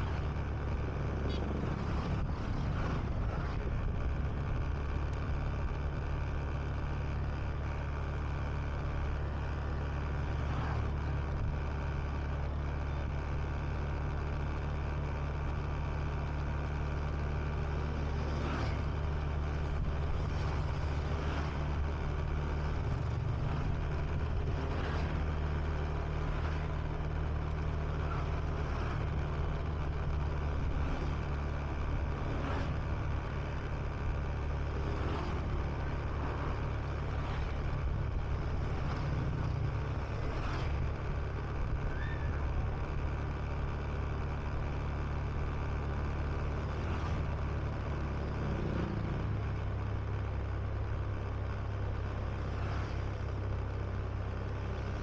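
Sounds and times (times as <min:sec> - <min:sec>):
scooter engine humming: 0:00.0 - 0:55.0
wind and road noise: 0:00.0 - 0:55.0.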